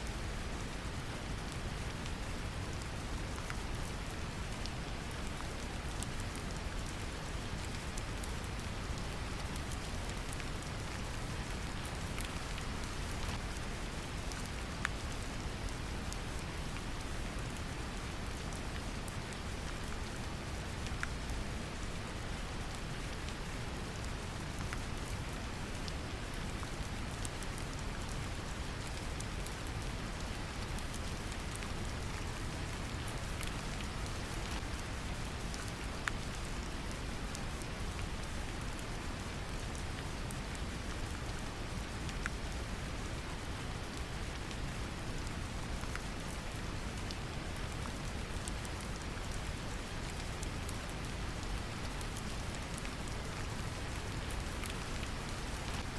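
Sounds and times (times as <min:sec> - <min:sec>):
gentle rain: 0:00.0 - 0:55.9.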